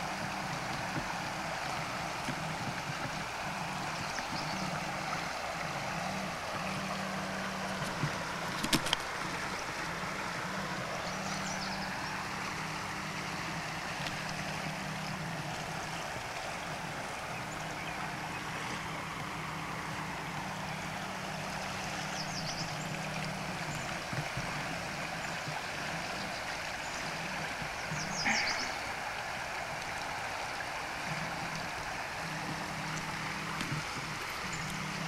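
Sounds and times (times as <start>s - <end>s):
creek flowing: 0.0s - 35.0s
low steady hum: 0.0s - 35.0s.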